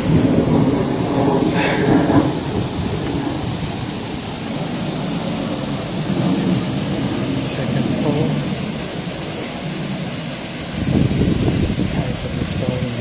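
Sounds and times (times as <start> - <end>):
waterfall splashing on rocks: 0.0 - 13.0.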